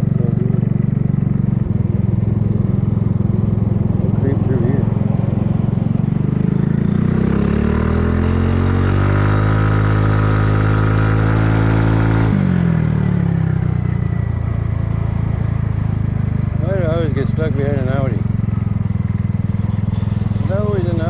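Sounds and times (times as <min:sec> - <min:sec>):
scooter engine accelerating: 0:00.0 - 0:21.0.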